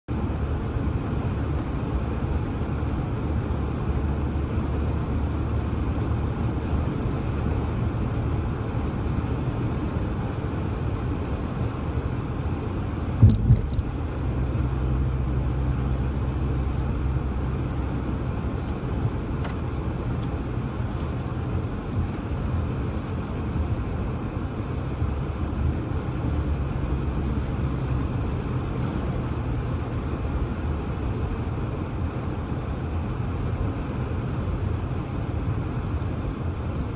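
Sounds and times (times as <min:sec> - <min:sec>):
car engine and tyres rumbling: 0:00.0 - 0:36.9.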